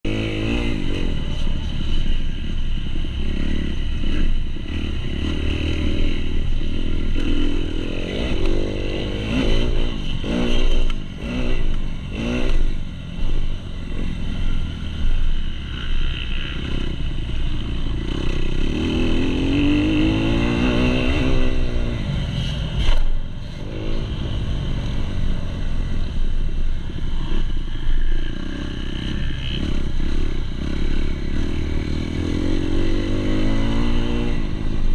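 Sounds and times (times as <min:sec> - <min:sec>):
motocross engine revving: 0:00.1 - 0:24.6, 0:27.1 - 0:34.9.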